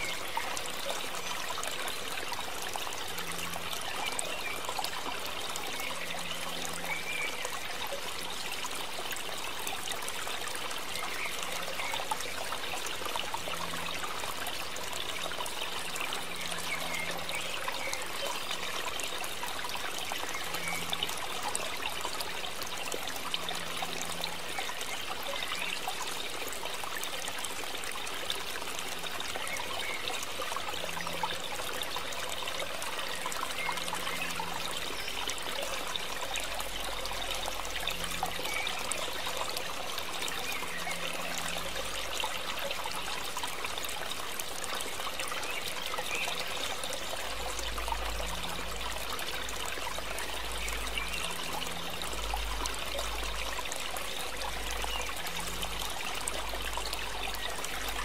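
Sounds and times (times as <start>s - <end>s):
water boiling in a pot: 0.0s - 58.0s.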